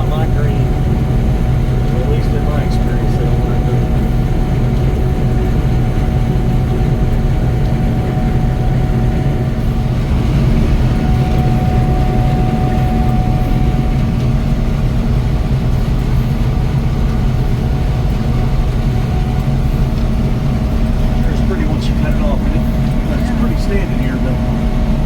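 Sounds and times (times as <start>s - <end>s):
combine engine and threshing drone: 0.0s - 25.0s
faint steady whine: 0.0s - 25.0s.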